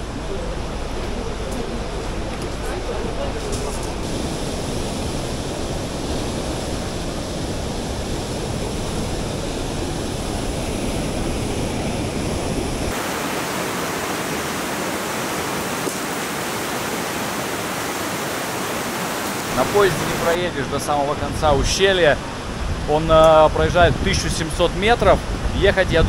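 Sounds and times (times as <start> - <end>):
river rushing over rocks: 3.9 - 25.7.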